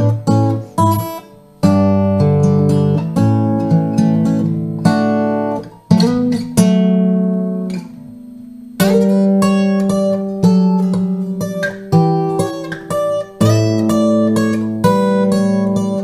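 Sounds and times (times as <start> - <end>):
acoustic guitar fingerpicking: 0.0 - 16.0.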